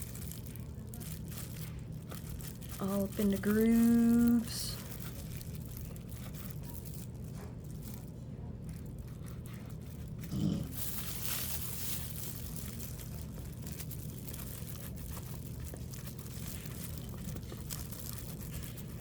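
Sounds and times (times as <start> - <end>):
brush scratching and rustling: 0.0 - 19.0
steady low hum: 0.0 - 19.0.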